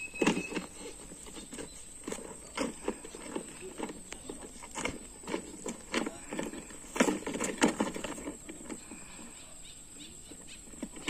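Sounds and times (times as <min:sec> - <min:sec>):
plastic wheels crunching on gravel: 0:00.0 - 0:11.0.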